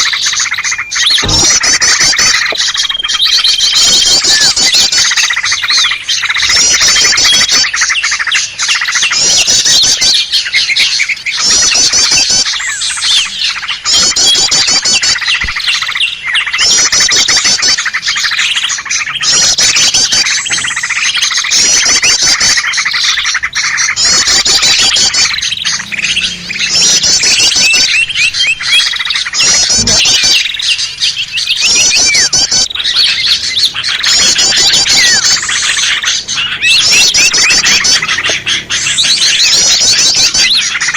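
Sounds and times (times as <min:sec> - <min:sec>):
fast high bird trill: 0:00.0 - 0:40.9
songbirds chattering and calling: 0:00.0 - 0:40.9.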